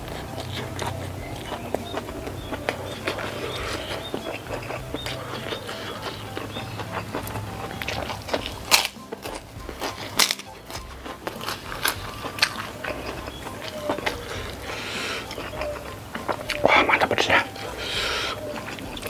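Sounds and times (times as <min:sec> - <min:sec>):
chewing: 0:00.0 - 0:19.0
crunching crispy cracker: 0:00.0 - 0:19.0.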